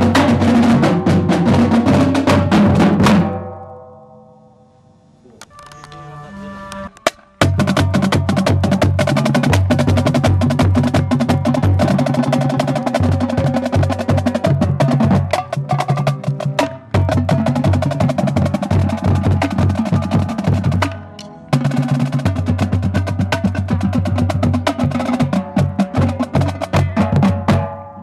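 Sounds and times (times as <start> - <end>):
marching drumline cadence: 0.0 - 4.0, 5.9 - 28.0.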